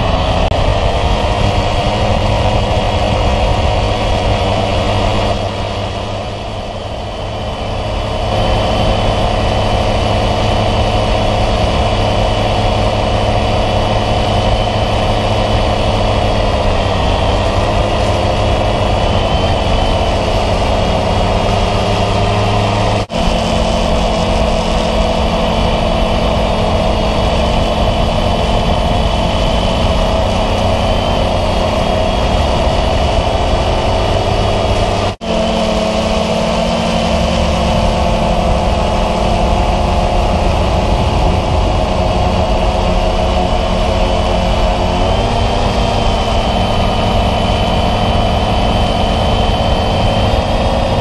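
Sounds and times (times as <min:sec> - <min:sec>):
drone motors humming: 0:00.0 - 0:51.0.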